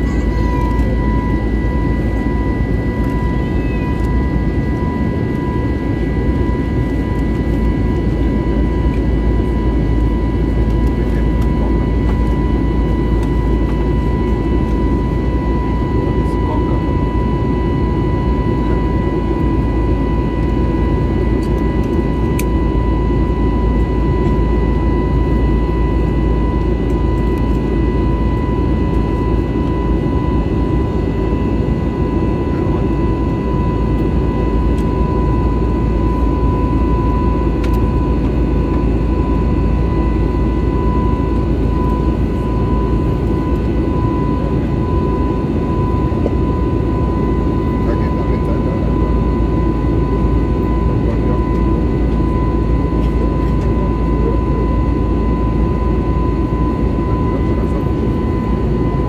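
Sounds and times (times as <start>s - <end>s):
jet engine and airflow rumble: 0.0s - 59.0s
steady high whine: 0.0s - 59.0s.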